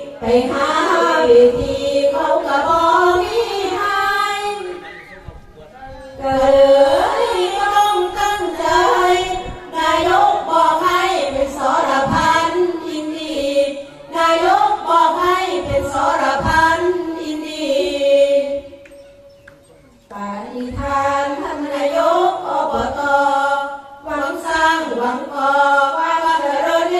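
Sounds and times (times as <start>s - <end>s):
women chanting verse: 0.0s - 4.8s, 6.2s - 18.8s, 20.1s - 26.9s.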